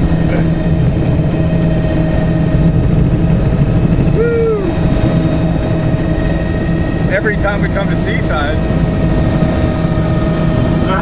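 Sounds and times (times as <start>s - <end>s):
helicopter engine rumble: 0.0s - 11.0s
high-pitched rotor whine: 0.0s - 11.0s.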